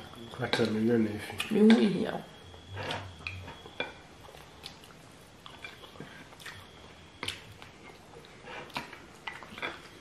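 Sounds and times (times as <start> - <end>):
people chewing food: 0.0 - 10.0.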